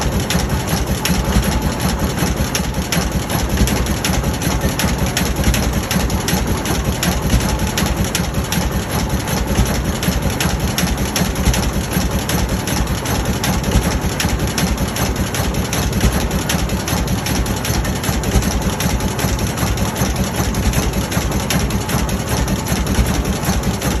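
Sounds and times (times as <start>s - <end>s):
two-cylinder engine running: 0.0s - 24.0s.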